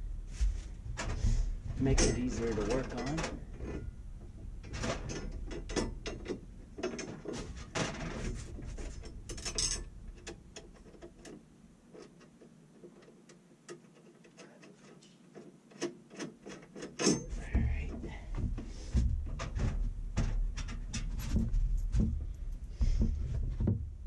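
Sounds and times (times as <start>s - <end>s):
knocks and handling noises: 0.3s - 24.0s.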